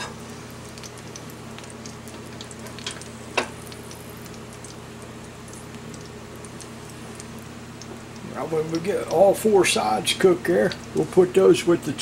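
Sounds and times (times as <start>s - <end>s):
oil crackling and popping: 0.0s - 11.1s
corn sizzling in oil: 0.0s - 12.0s.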